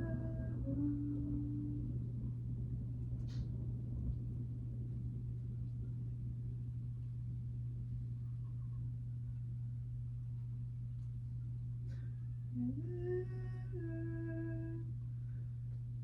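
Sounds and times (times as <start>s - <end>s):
low synthesizer drone: 0.0s - 16.0s.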